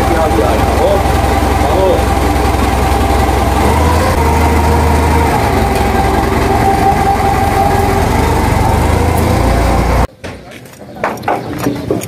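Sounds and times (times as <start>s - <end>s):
truck engine idling: 0.0s - 10.1s.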